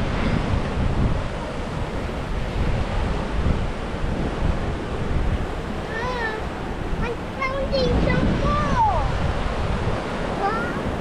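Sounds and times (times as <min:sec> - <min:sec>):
ocean surf washing on shore: 0:00.0 - 0:11.0
wind buffeting microphone: 0:00.0 - 0:11.0.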